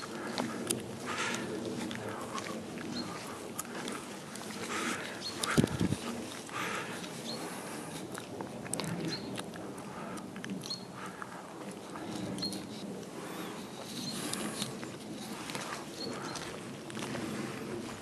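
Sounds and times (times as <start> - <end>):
footsteps on wet dirt road: 0.0 - 18.0.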